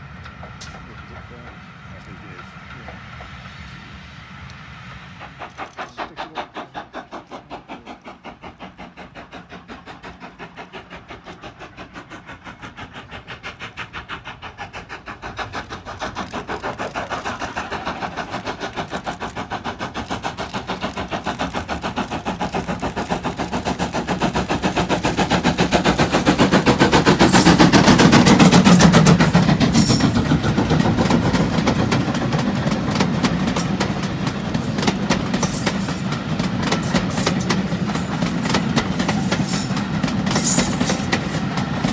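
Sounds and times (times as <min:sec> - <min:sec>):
steam locomotive exhaust beats: 0:00.0 - 0:41.9
coaches rattling over rail joints: 0:05.3 - 0:41.9.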